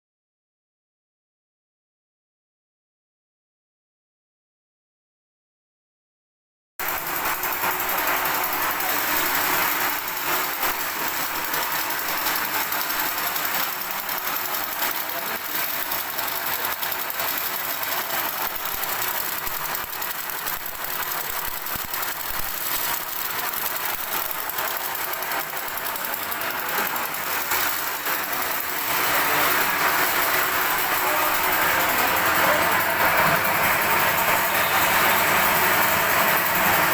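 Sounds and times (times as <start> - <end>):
extruder machine running: 6.8 - 36.9.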